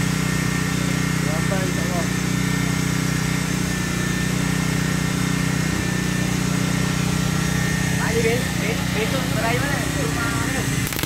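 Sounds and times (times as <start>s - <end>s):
firework fountain hissing: 0.0s - 11.0s
motor idling: 0.0s - 11.0s.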